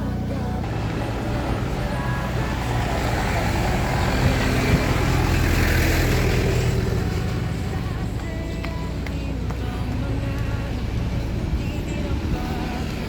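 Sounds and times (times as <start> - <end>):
motor vehicle passing: 0.0 - 13.0
road noise: 0.0 - 13.0.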